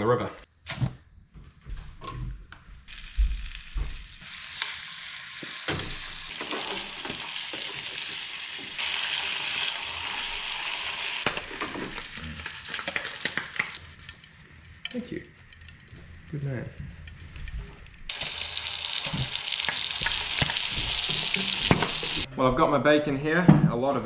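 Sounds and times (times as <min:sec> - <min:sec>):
bacon sizzling in a frying pan: 0:02.9 - 0:22.3.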